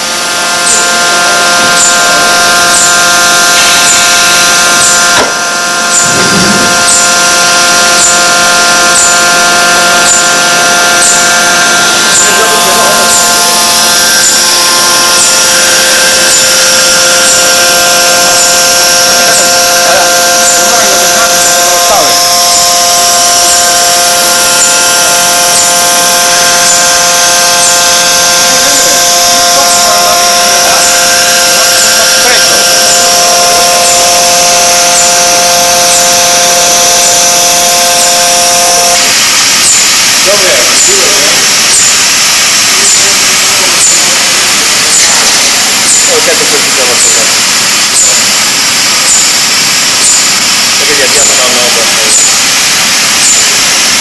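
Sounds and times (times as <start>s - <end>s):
hydraulic press hissing: 0.0s - 54.0s
multi-tone machine whine: 0.0s - 54.0s.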